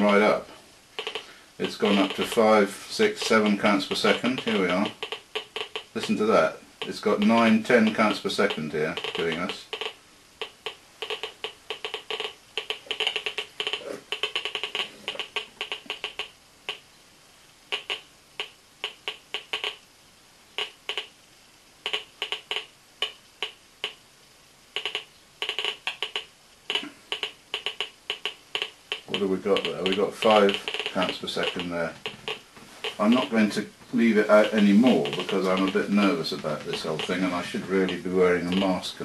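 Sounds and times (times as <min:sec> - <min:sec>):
radiation counter clicking: 0:00.0 - 0:16.9, 0:17.7 - 0:19.9, 0:20.5 - 0:21.2, 0:21.8 - 0:24.1, 0:24.7 - 0:39.0.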